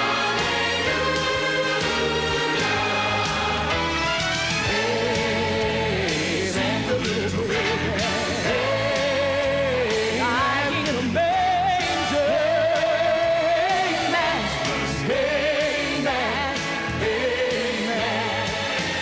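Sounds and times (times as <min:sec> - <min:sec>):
full band playing: 0:00.0 - 0:19.0.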